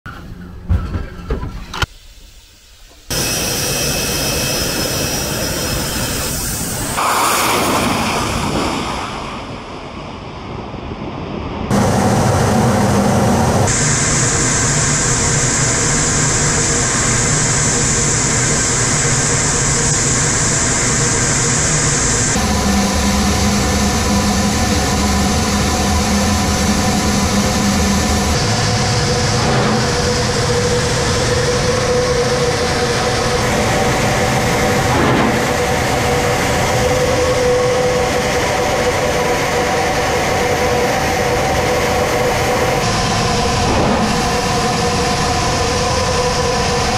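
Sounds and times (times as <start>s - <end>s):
high whine: 0.1s - 46.9s
jet engines and rushing air: 1.7s - 46.9s.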